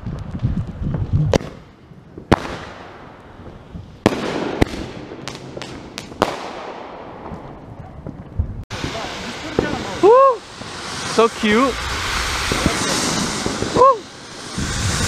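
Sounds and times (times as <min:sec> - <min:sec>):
fireworks crackling: 0:00.0 - 0:15.0
fireworks bangs: 0:01.2 - 0:15.0.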